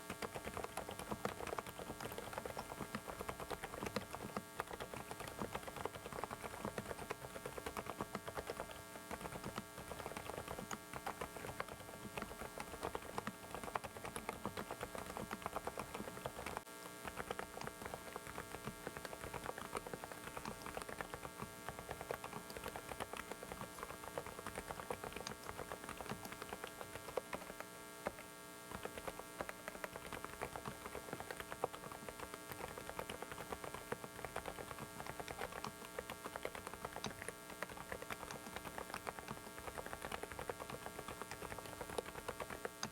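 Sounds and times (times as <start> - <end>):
mechanical keyboard typing: 0.0 - 42.9
steady electrical hum: 0.0 - 42.9.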